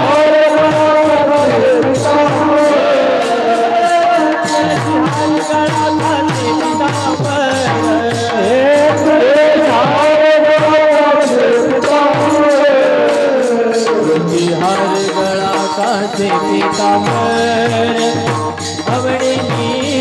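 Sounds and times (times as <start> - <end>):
drum beat: 0.0 - 20.0
hand cymbals: 0.0 - 20.0
held accompaniment tones: 0.0 - 20.0.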